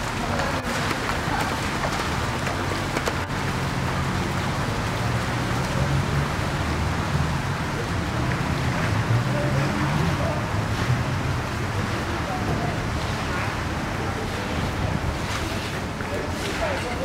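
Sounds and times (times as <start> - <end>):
rain on a flooded street: 0.0 - 17.0.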